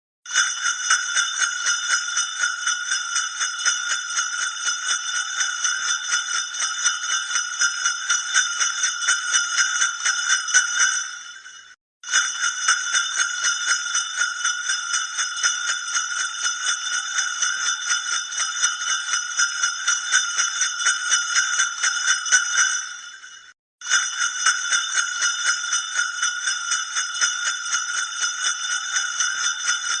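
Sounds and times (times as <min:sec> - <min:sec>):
bells jingling rapidly: 0:00.3 - 0:30.0.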